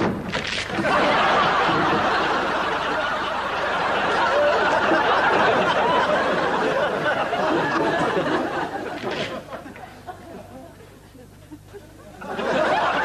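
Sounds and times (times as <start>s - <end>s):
audience laughing: 0.7s - 13.0s.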